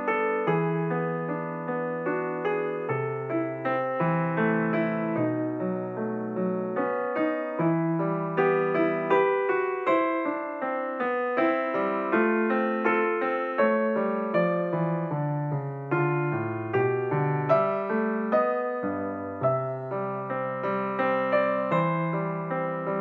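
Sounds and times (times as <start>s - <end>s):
slow piano melody: 0.0s - 23.0s.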